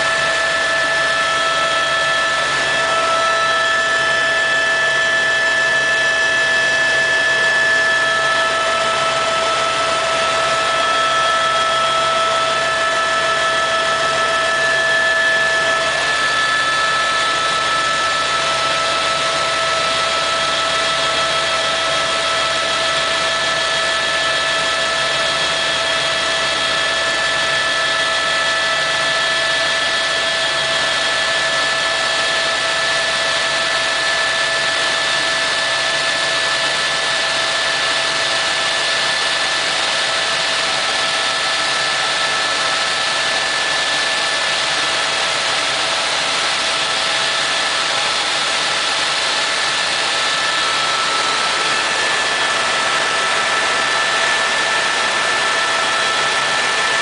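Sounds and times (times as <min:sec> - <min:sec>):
helicopter engine whine: 0:00.0 - 0:57.0.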